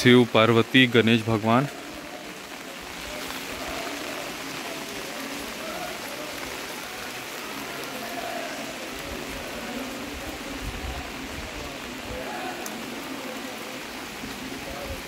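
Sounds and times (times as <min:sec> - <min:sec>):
rain on paving and umbrellas: 0:00.0 - 0:15.0.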